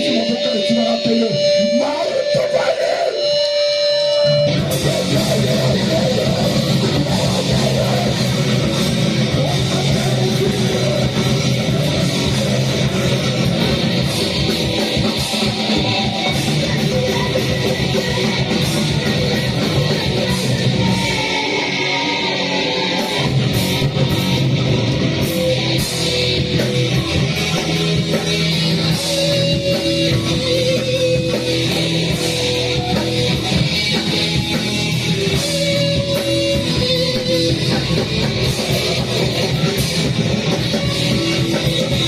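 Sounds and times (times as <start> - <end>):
live band playing heavy music: 0.0 - 42.0.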